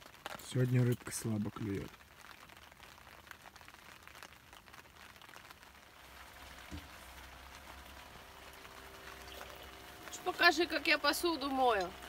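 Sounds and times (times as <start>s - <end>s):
light rain patter: 0.0s - 12.0s.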